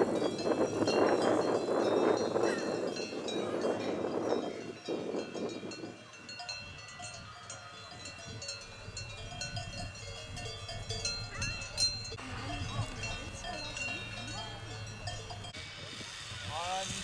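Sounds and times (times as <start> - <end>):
livestock bells clanking: 0.0 - 15.9.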